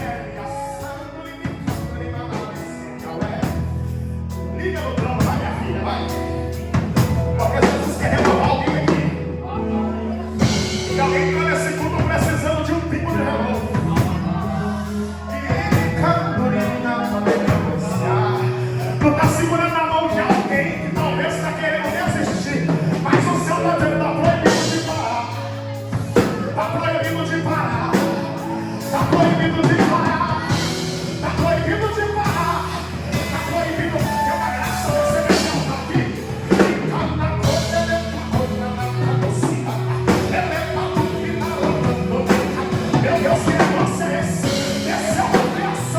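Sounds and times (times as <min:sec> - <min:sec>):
bass line: 0:00.0 - 0:45.9
gospel band playing: 0:00.0 - 0:45.9
drum beats: 0:05.0 - 0:09.2, 0:10.4 - 0:45.9
singing: 0:07.0 - 0:45.9.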